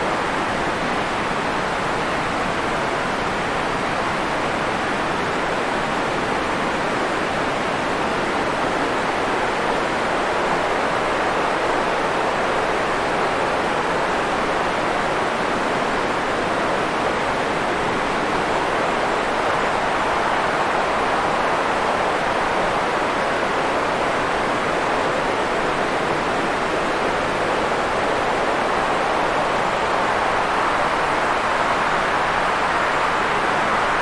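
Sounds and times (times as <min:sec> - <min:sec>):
white noise hiss: 0:00.0 - 0:34.0.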